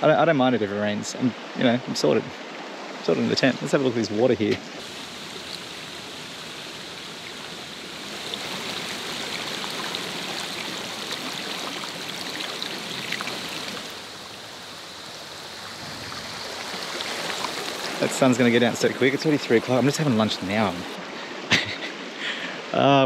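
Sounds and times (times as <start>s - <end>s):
creek water rippling over rocks: 2.2s - 21.4s.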